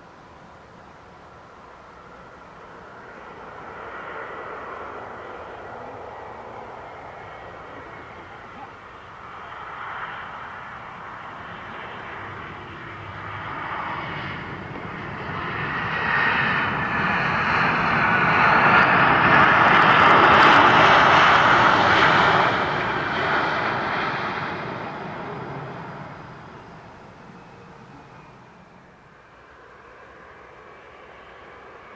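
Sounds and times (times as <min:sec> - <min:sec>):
jet engines in reverse thrust: 0:00.0 - 0:31.9.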